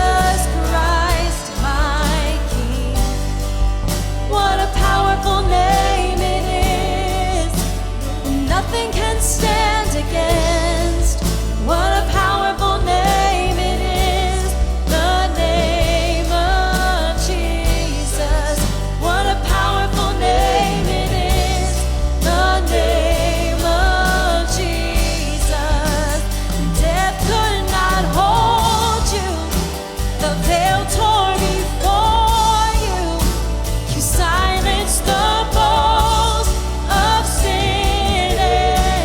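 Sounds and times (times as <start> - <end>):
bass guitar: 0.0 - 39.0
drums with cymbals: 0.0 - 39.0
guitars: 0.0 - 39.0
piano: 0.0 - 39.0
vocalists singing with vibrato: 0.0 - 39.0.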